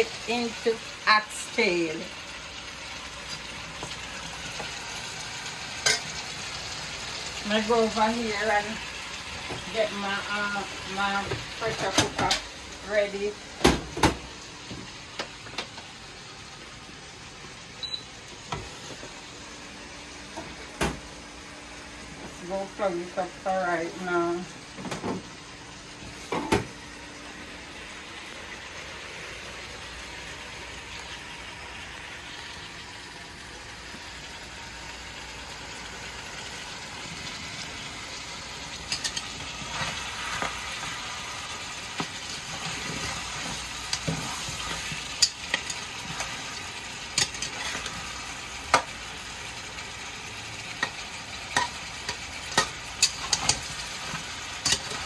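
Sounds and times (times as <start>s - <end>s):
meat sizzling in a pot: 0.0s - 55.0s.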